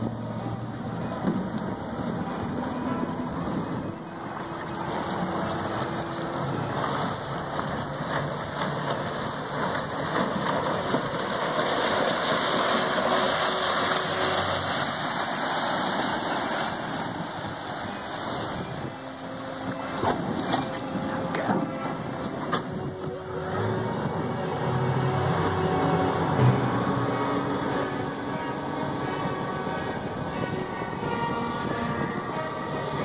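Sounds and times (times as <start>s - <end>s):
outboard engine drone: 0.0s - 33.0s
water and wind rushing: 0.0s - 33.0s.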